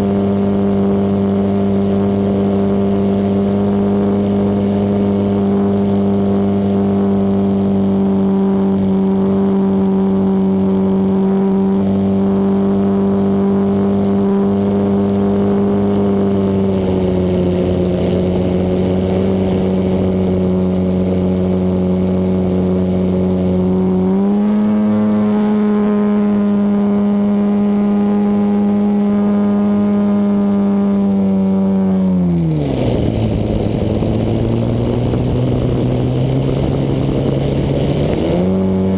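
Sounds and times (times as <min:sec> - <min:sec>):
model plane engine at high throttle: 0:00.0 - 0:38.9.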